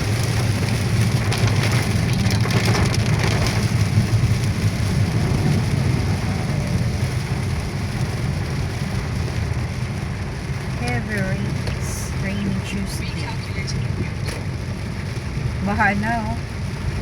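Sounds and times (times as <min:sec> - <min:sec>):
car rumbling on road: 0:00.0 - 0:17.0
rain hitting car roof: 0:00.0 - 0:17.0.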